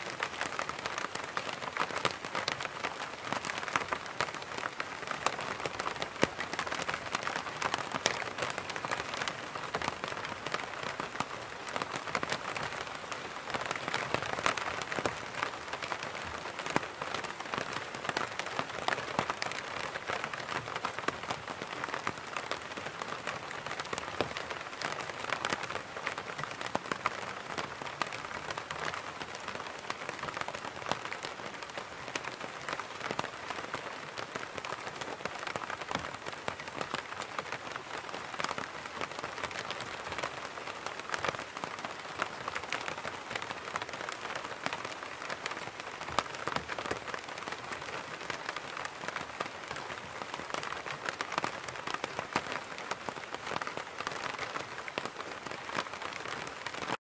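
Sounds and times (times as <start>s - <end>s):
rain on fabric umbrella: 0.0s - 57.0s.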